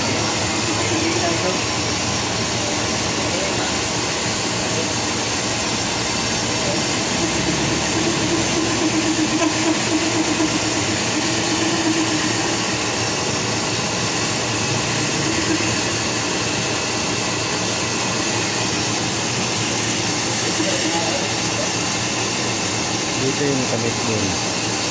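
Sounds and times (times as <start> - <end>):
machine-shop equipment running: 0.0 - 24.9.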